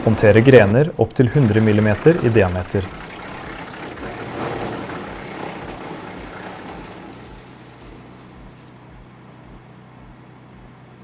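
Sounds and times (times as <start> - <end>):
broad rushing noise: 0.0 - 9.6
wood chipper engine running: 0.0 - 11.0.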